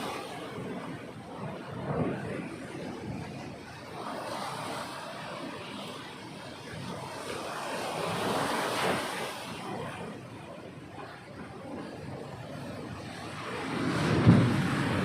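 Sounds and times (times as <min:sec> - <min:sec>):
ocean waves washing onto beach: 0:00.0 - 0:15.0.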